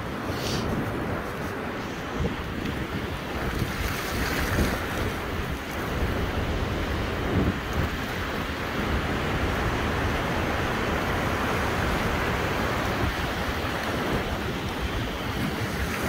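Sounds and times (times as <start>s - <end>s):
surf rushing: 0.0s - 16.0s
wind buffeting microphone: 0.0s - 16.0s.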